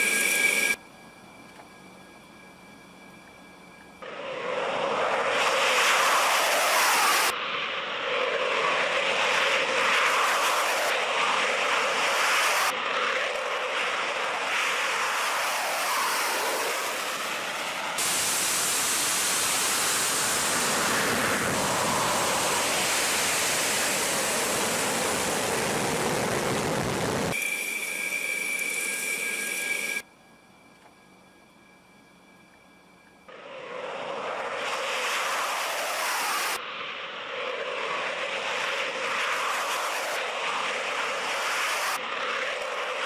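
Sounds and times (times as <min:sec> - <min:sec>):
steady high whine: 0:00.0 - 0:43.0
fighter jet engines roaring: 0:04.0 - 0:30.0, 0:33.3 - 0:43.0.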